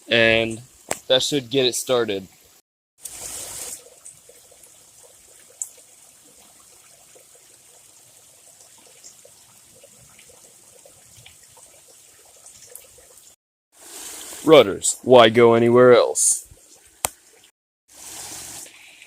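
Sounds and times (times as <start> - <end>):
creek trickling: 0.1 - 19.0.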